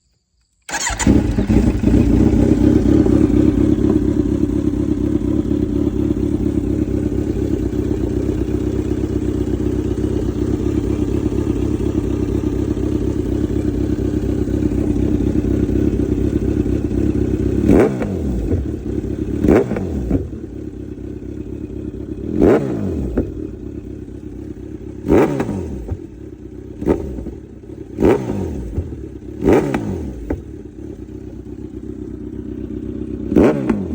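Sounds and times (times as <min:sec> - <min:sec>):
motorcycle engine running: 0:00.7 - 0:33.9
motorcycle throttle blips: 0:00.7 - 0:33.9.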